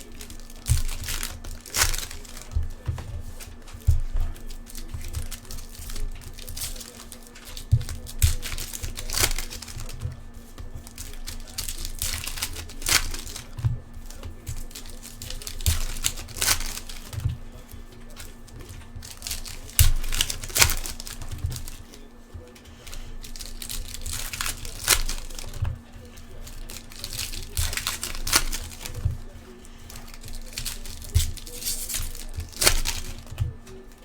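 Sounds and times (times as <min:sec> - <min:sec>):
faint steady hum: 0:00.0 - 0:34.0
foil wrappers crinkling and tearing: 0:00.0 - 0:34.0
handling knocks: 0:00.0 - 0:34.0.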